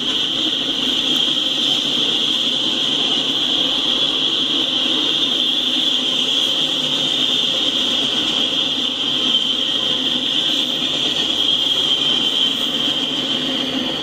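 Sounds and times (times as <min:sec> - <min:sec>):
high-pitched whine: 0:00.0 - 0:14.0
train wheels rumbling on rails: 0:00.0 - 0:14.0.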